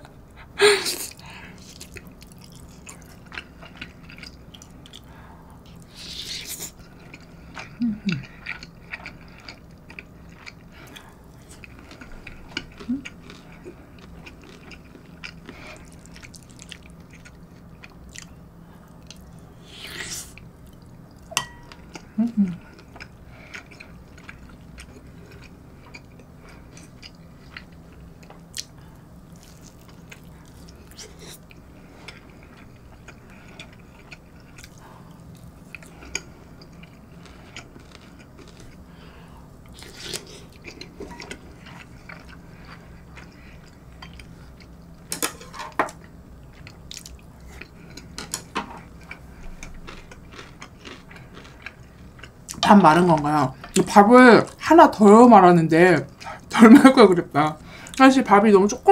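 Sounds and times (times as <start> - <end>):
steady low hum: 0.0 - 58.9
chewing soft food: 1.1 - 45.1, 46.0 - 53.8.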